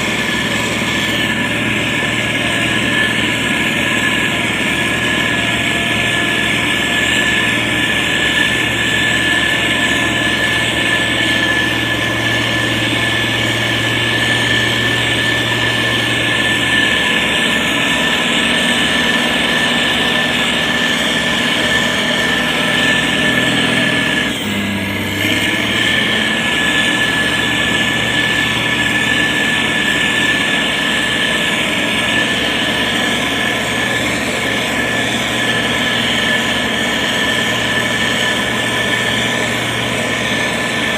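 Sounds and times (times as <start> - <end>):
diesel engine running: 0.0 - 40.9
high whine: 0.0 - 40.9.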